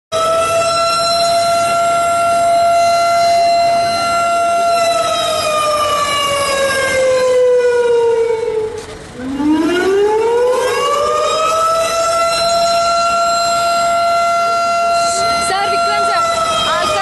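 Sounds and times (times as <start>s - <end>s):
siren wail: 0.1s - 17.0s.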